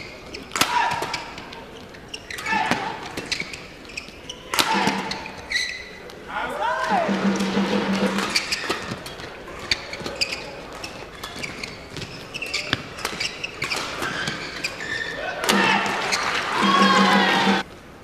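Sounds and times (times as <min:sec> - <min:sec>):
court shoes squeaking: 0:00.0 - 0:17.9
crowd noise: 0:00.0 - 0:18.0.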